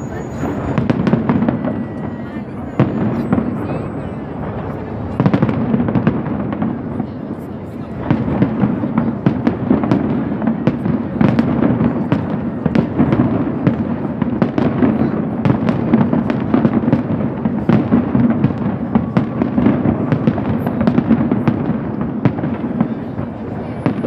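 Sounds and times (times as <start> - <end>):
fireworks bangs and crackles: 0.0 - 24.0
rumble of overlapping explosions: 0.2 - 24.0.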